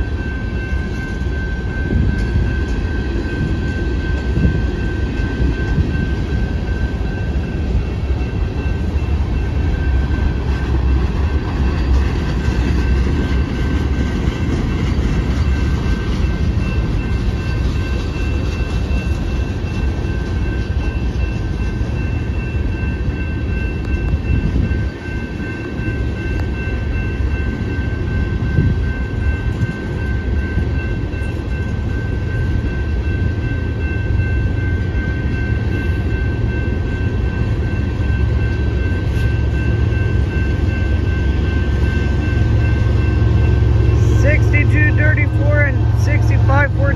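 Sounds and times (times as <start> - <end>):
high-pitched ring: 0.0 - 14.0, 14.8 - 46.9
train wheels rumbling on rail: 0.0 - 46.9.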